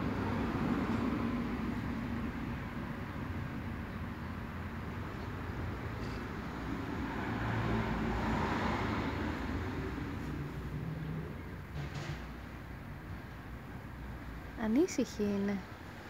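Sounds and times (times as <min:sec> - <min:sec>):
vehicle passing: 0:00.0 - 0:13.0
street traffic noise: 0:00.0 - 0:16.0.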